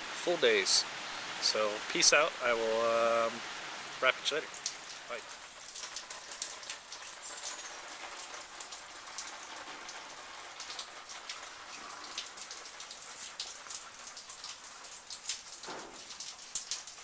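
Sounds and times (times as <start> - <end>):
rain drops tapping: 0.0 - 17.0.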